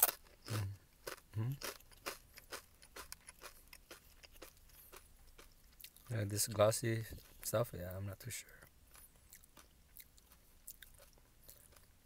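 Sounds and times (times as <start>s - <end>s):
chewing crunchy cracker: 0.0s - 7.9s, 8.5s - 12.0s.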